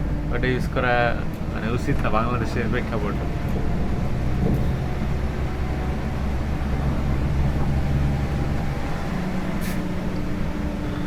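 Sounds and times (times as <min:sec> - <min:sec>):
diesel engine drone: 0:00.0 - 0:11.0
road noise: 0:00.0 - 0:11.0.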